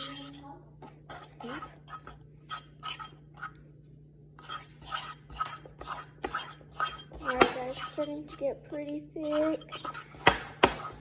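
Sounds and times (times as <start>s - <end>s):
spoon scraping dough in bowl: 0.0s - 11.0s.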